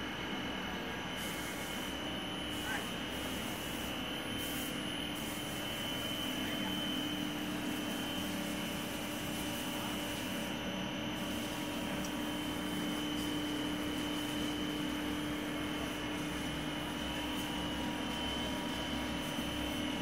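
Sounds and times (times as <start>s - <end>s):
machine hum with high whine: 0.0s - 20.0s.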